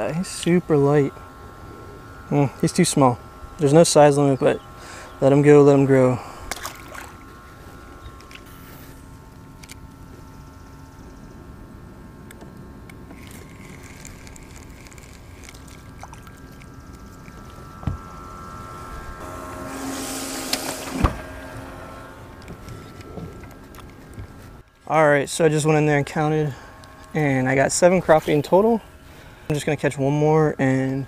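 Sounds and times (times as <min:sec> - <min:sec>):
small boat motor humming: 0:00.0 - 0:31.0.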